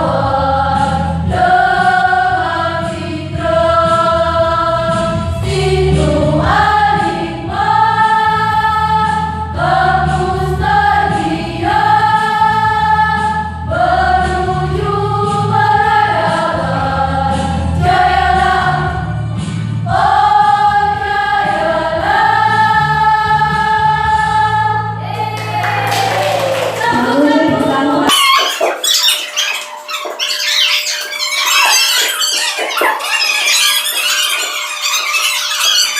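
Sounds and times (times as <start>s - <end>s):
choir singing: 0.0s - 28.9s.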